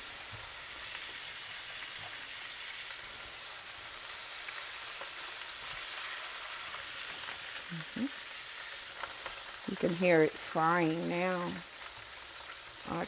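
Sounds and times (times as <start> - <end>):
cabbage frying in hot oil: 0.0 - 13.0
faint crackles: 0.1 - 13.0.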